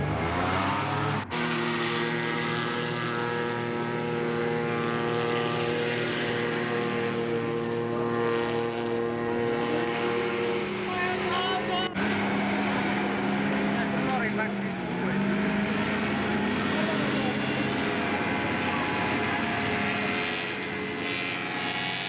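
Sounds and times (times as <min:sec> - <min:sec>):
hovercraft engine droning: 0:00.0 - 0:22.0.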